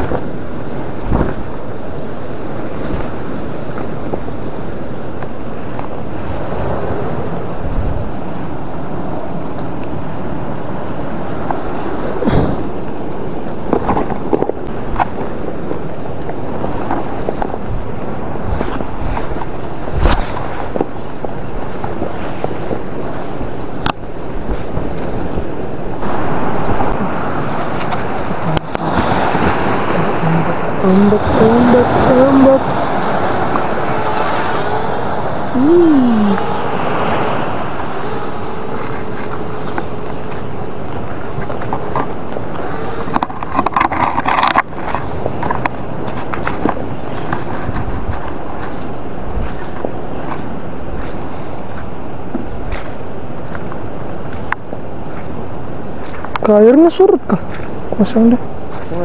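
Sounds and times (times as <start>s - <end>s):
small waves washing onto sand: 0.0s - 51.9s
wind noise on microphone: 0.0s - 59.0s.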